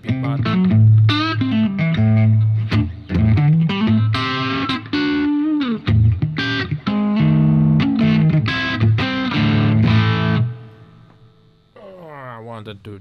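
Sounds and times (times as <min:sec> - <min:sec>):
overdriven electric guitar: 0:00.0 - 0:11.4.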